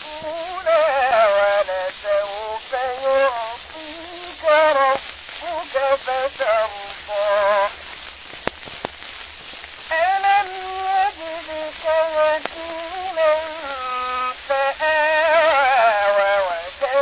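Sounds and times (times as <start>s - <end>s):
person chanting melodically: 0.0s - 7.8s, 9.9s - 17.0s
recording hiss and crackle: 0.0s - 17.0s.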